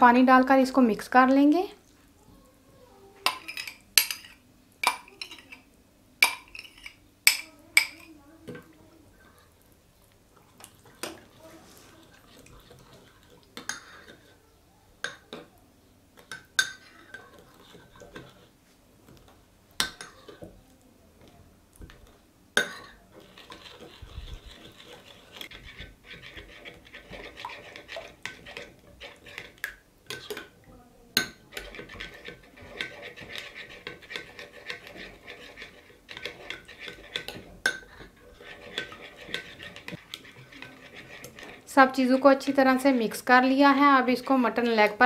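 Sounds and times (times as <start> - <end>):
spoon scraping and stirring: 3.2 - 14.4, 16.2 - 20.6, 21.2 - 30.6, 31.2 - 45.0.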